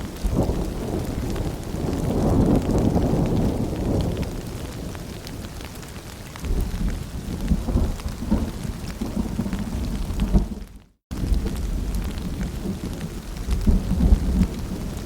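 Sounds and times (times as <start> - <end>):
rolling thunder: 0.0 - 5.4, 6.4 - 15.0
steady rain: 0.0 - 15.0.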